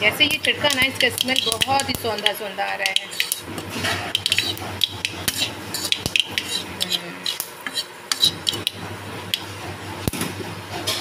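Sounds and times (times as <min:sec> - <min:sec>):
seeds crackling in hot oil: 0:00.0 - 0:10.2
low steady hum: 0:00.0 - 0:11.0
spatula scraping a pan: 0:00.2 - 0:09.8.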